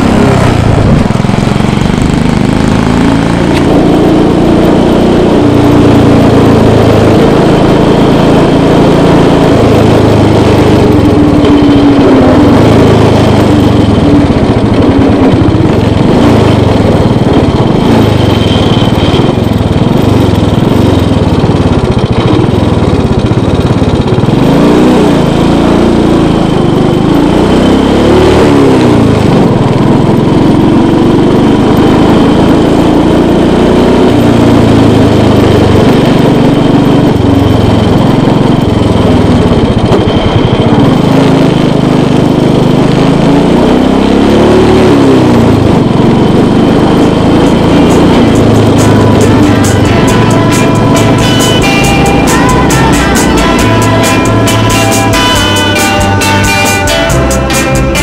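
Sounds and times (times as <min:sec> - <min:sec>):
scooter engine running: 0:00.0 - 0:58.0.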